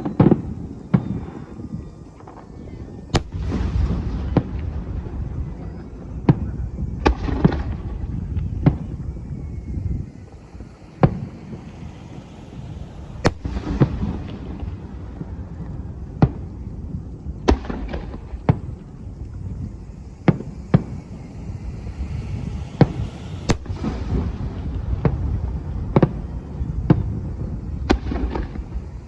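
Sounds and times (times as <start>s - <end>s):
firework shells bursting: 0.0s - 29.0s
fireworks crackle: 0.0s - 29.0s.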